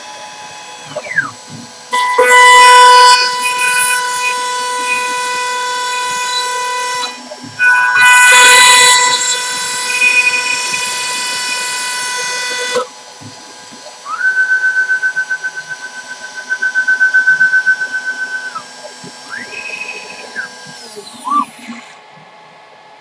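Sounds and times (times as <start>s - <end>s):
router spindle cutting wood: 0.0s - 22.1s
machine motors whining: 0.0s - 22.2s.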